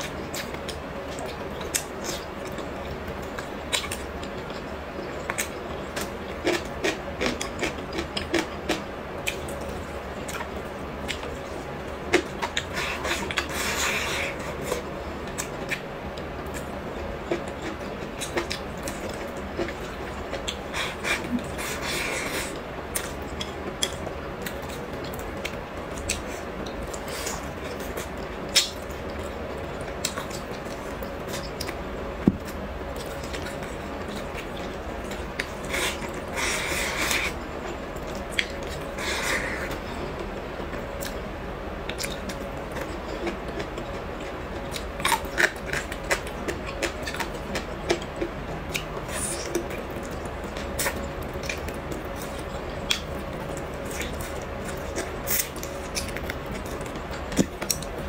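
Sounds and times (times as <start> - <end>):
chewing food: 0.0 - 58.0.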